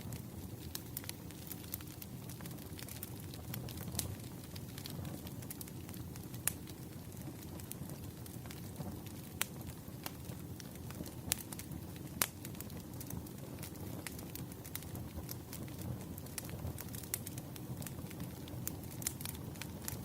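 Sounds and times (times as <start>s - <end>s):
fire crackling snaps and pops: 0.0s - 20.0s
logs burning rumble: 0.0s - 20.0s.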